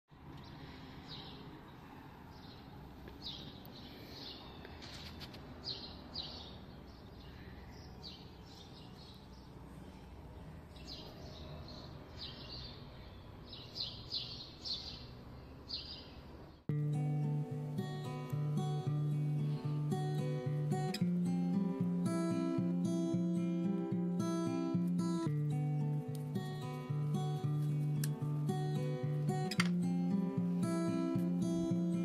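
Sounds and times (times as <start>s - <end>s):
small birds chirping: 0.1s - 32.0s.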